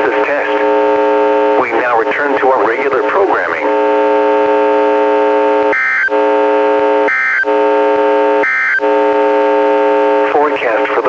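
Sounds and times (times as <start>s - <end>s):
multi-tone interference buzz: 0.0s - 11.0s.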